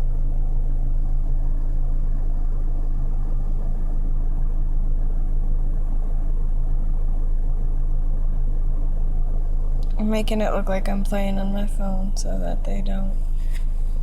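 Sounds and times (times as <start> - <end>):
air vents blowing: 0.0 - 14.0.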